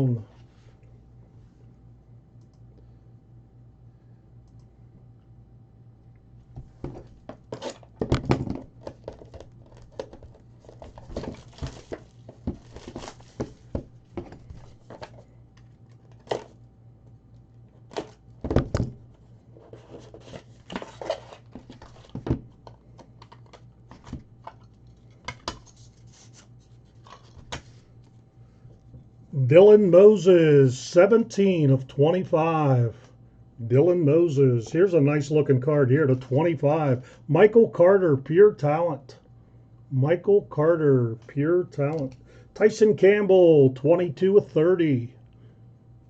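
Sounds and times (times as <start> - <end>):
faint electrical hum: 0.0 - 46.0.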